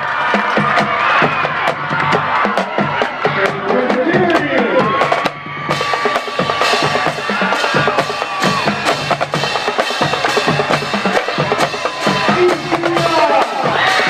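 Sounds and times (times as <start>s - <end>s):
drum and percussion music: 0.0s - 14.0s.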